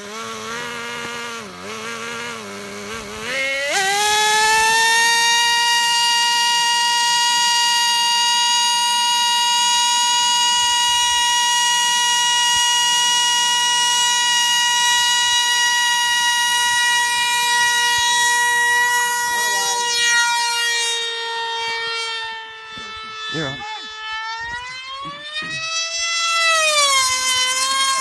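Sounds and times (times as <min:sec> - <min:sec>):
model plane engine whining: 0:00.0 - 0:28.0.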